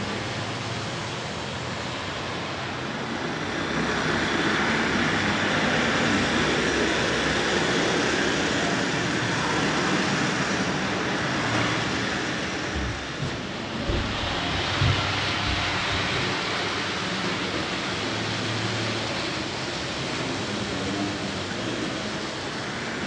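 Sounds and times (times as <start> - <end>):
model train rumbling on track: 0.0 - 23.0.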